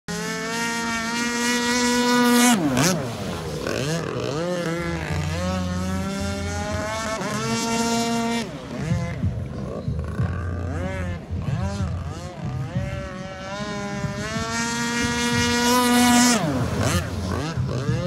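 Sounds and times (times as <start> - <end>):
boat engine high-pitched whine: 0.1 - 18.0.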